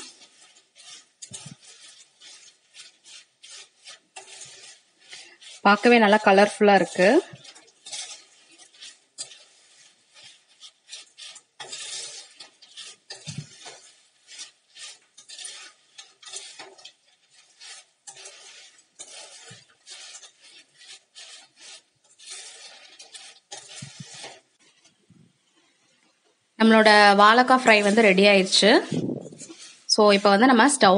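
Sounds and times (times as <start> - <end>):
spatula scraping steel pan: 0.0 - 30.9.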